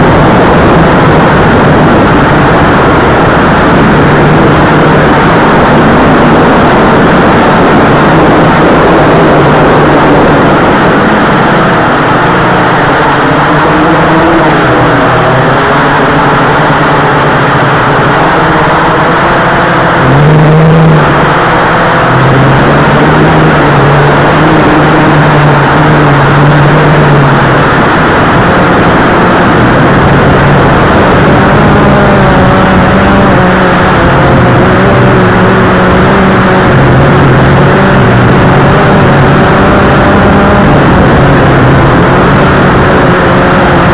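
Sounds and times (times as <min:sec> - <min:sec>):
quadcopter motors droning: 0:00.0 - 0:43.9.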